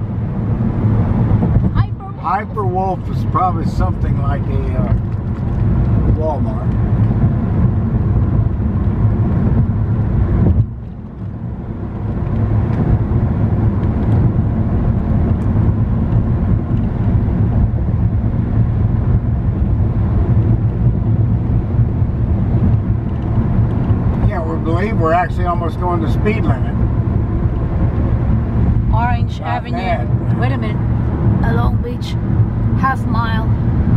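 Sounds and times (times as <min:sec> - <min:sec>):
car cabin road and engine noise: 0:00.0 - 0:33.9.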